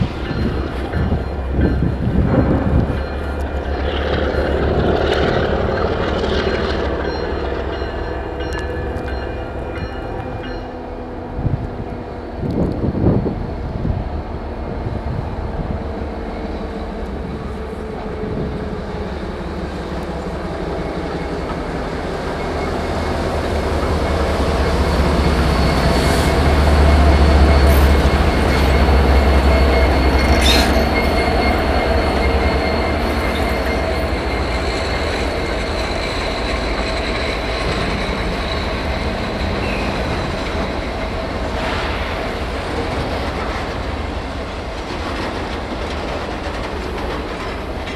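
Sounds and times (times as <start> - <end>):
train wheel squeal: 0.0 - 10.8, 16.2 - 47.9
locomotive engines rumbling: 0.0 - 47.9
rail cars clanking: 0.0 - 47.9.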